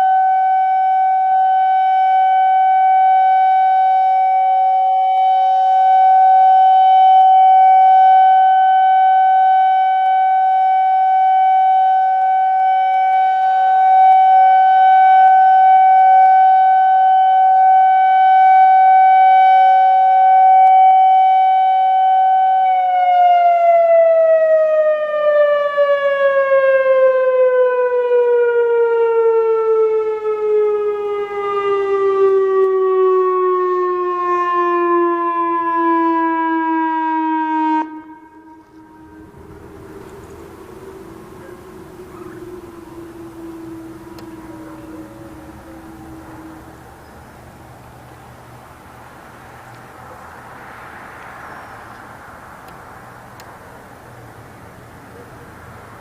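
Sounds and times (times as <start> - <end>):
warning siren tone: 0.0 - 48.1.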